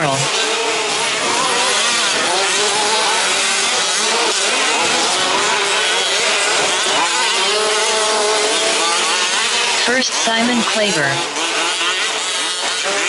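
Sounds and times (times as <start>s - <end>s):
remote-control truck engines buzzing: 0.0s - 13.0s.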